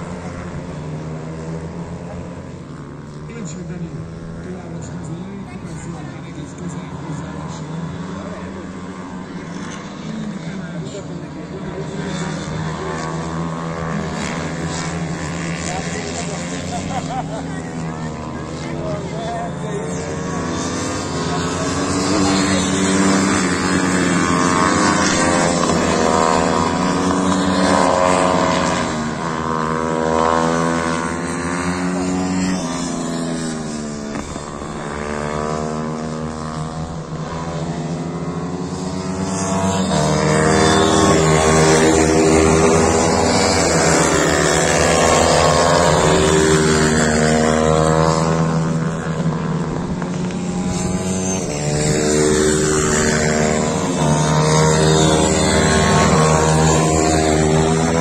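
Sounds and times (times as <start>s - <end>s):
pitbike engines revving: 0.0s - 58.0s.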